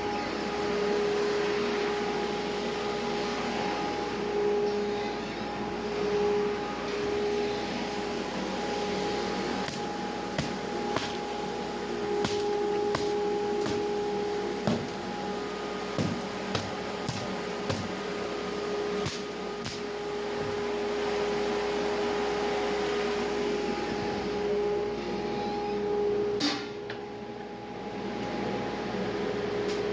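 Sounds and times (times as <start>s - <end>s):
dust collection fan humming: 0.0s - 29.9s.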